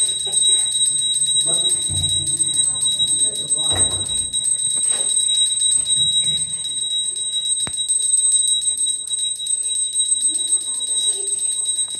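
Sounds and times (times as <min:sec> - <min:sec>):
hand bell ringing rapidly: 0:00.0 - 0:11.9.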